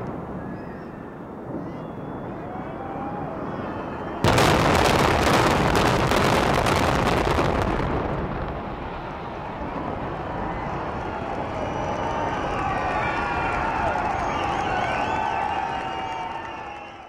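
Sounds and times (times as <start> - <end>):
rumble of collapsing building: 1.2 - 15.8.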